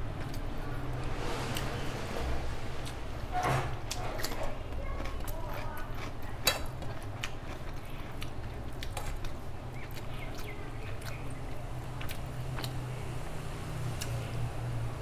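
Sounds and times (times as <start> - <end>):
person chewing food: 0.0 - 3.1, 3.7 - 14.5.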